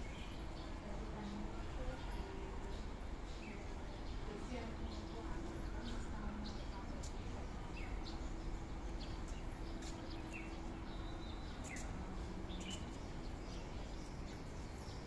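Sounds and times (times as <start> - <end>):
birds chirping: 0.0 - 15.0
low background noise: 0.0 - 15.0.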